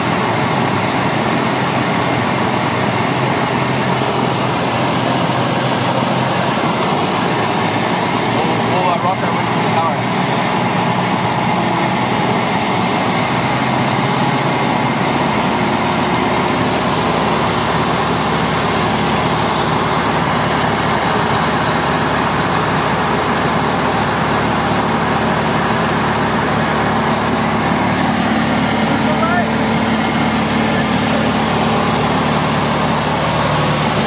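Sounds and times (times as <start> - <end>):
plane engine and propeller running: 0.0 - 34.0.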